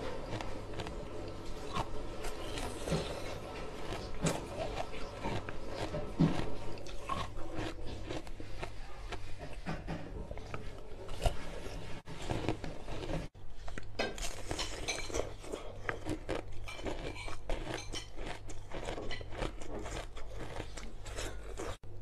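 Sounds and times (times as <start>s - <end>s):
ice crunching when chewed: 0.0s - 21.8s
low steady hum: 0.0s - 22.0s.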